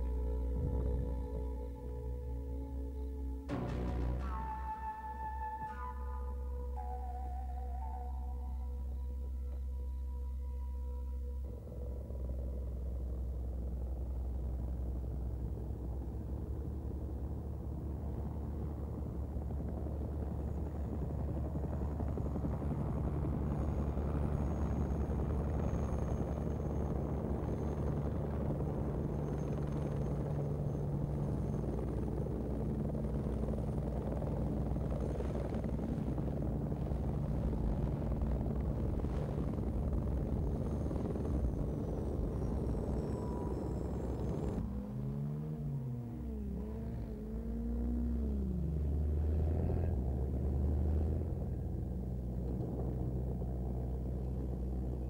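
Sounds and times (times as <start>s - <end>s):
faint high whine: 0.0s - 55.0s
helicopter rotor chop and rumble: 0.0s - 55.0s.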